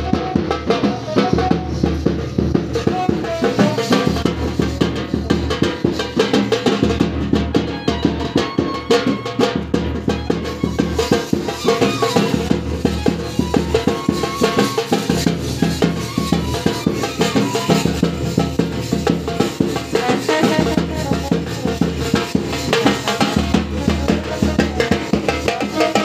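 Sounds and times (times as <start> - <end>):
fast steady drumming: 0.0 - 26.0
festive band music: 0.0 - 26.0.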